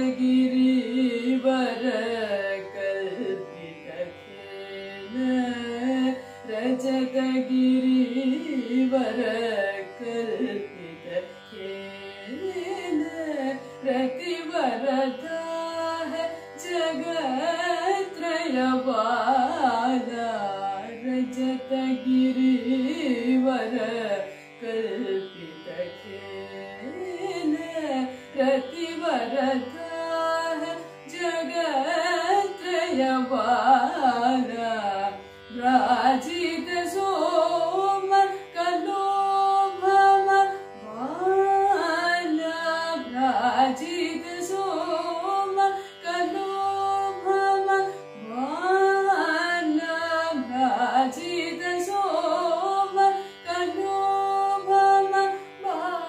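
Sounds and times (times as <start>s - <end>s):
woman singing ornamented notes: 0.0s - 56.0s.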